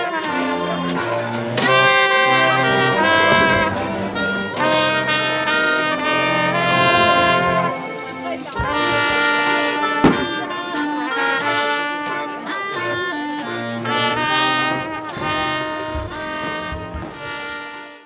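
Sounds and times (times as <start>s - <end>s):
brass background music: 0.0s - 18.0s.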